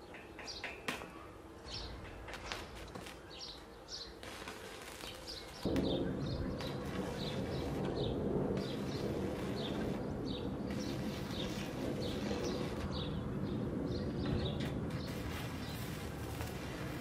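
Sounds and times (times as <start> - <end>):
small birds chirping: 0.0 - 17.0
arc welding crackle: 2.0 - 17.0.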